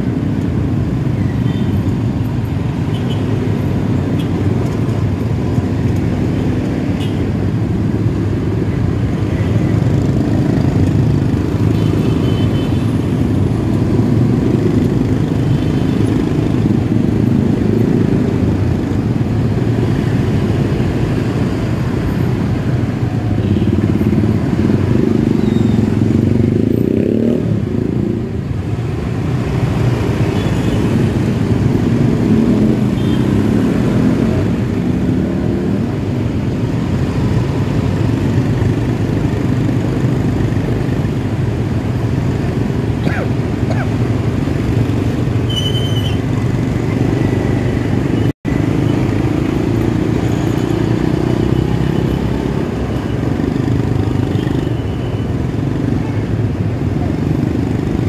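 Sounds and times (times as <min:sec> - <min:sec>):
idling engines in traffic: 0:00.0 - 0:58.0.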